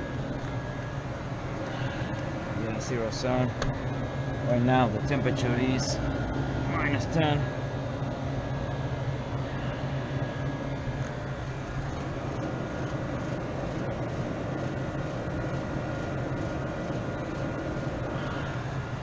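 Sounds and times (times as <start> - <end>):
faint steady whine: 0.0 - 19.0
refrigeration hum: 0.0 - 19.0.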